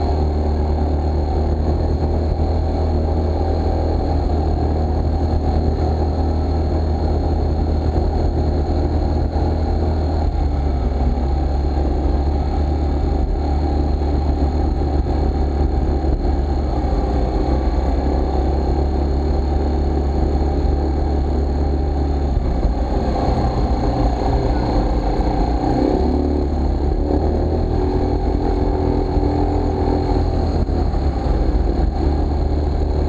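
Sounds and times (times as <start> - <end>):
scooter cruising with high whine: 0.0 - 33.0.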